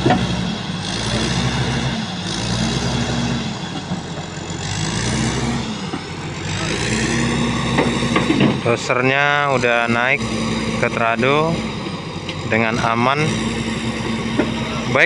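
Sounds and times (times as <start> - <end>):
bulldozer diesel engine revving: 0.0 - 15.0.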